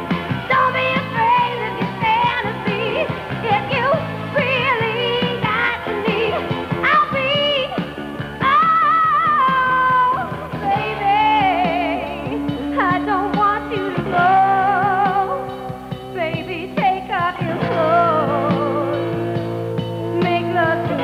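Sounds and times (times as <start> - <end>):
rock band playing: 0.0 - 21.0
woman singing: 0.4 - 19.2, 20.1 - 21.0.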